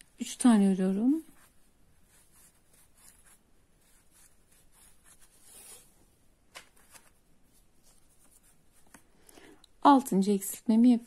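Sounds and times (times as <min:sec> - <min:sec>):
crochet hook rustling yarn: 0:00.0 - 0:09.1.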